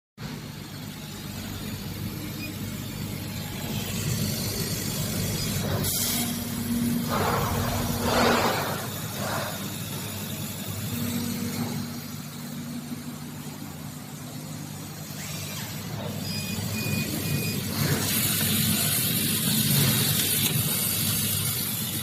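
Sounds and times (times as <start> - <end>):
laser cutter humming: 0.2 - 22.0.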